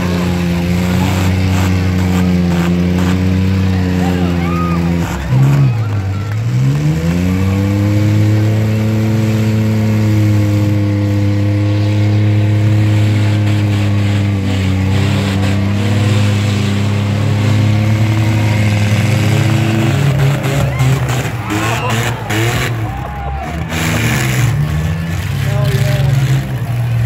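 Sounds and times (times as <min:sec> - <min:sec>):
truck engine revving high: 0:00.0 - 0:27.0.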